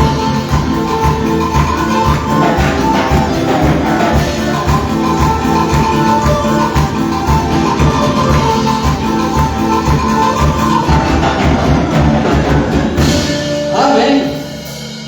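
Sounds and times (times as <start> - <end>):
live band playing instrumental: 0.0 - 15.0.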